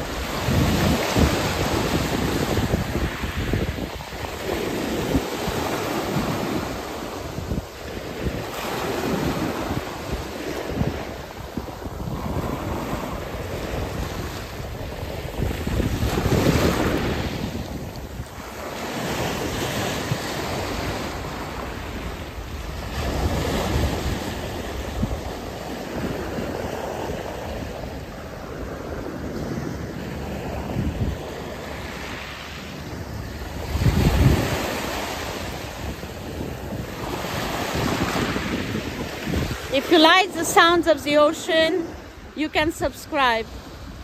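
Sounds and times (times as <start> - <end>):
waves washing up shingle beach: 0.0 - 44.0
wind buffeting microphone: 0.0 - 44.0.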